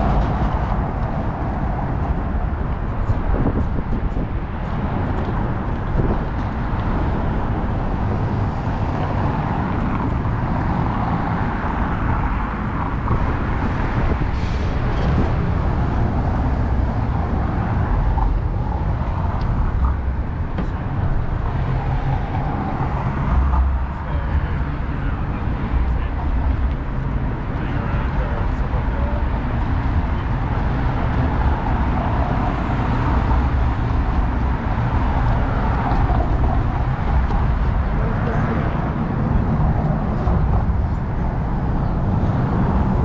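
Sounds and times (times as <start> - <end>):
cars passing on street: 0.0 - 43.0.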